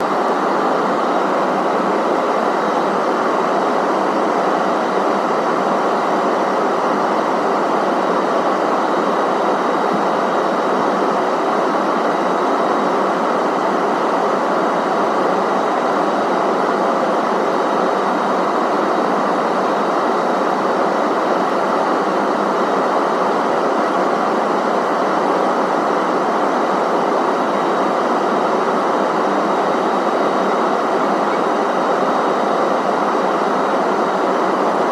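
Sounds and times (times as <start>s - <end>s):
airplane cabin airflow and engine noise: 0.0s - 34.9s
faint high whine: 0.0s - 34.9s.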